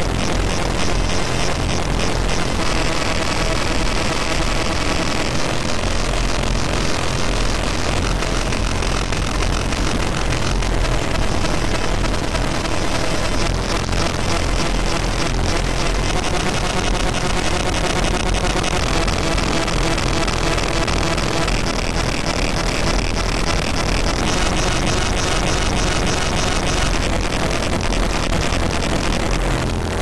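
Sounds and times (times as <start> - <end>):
harsh distorted noise music: 0.0 - 30.0.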